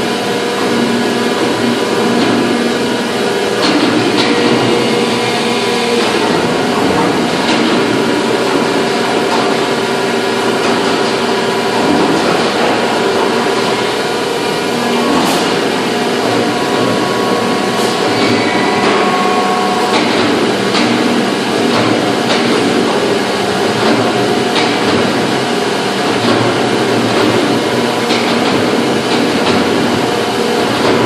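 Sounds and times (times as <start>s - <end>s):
factory machinery humming: 0.0s - 31.0s.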